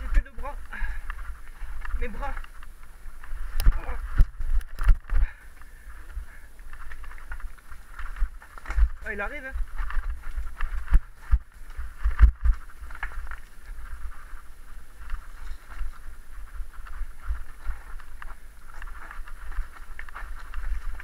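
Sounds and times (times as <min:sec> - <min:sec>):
bike tyres rattling on dirt: 0:00.0 - 0:21.0.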